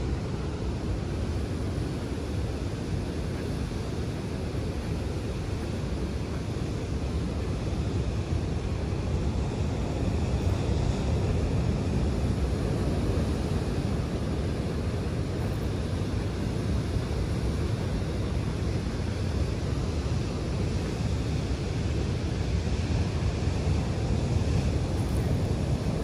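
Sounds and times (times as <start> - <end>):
ocean surf on sandy beach: 0.0 - 26.0
wind buffeting microphone: 0.0 - 26.0.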